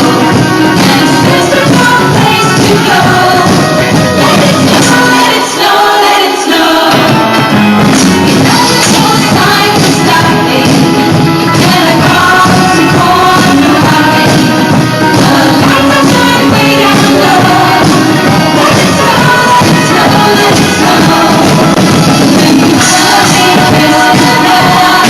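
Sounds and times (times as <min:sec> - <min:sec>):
live band music: 0:00.0 - 0:25.0.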